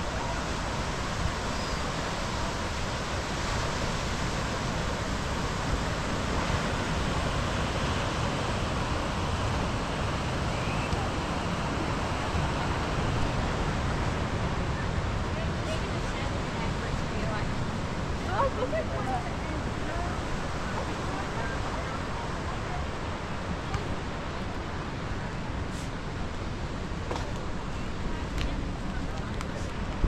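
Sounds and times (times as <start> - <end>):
ocean surf breaking on sand: 0.0 - 30.0
wind rumbling on microphone: 0.0 - 30.0.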